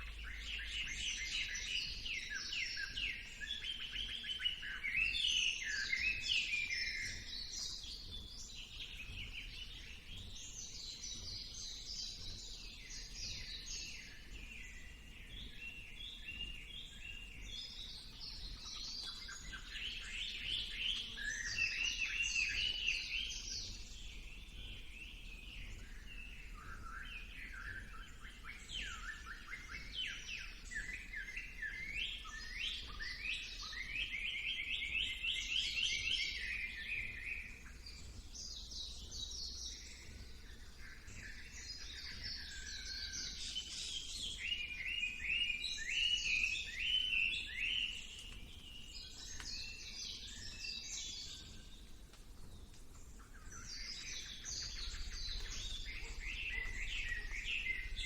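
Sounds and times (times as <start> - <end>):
songbirds singing high chirps: 0.0 - 58.0.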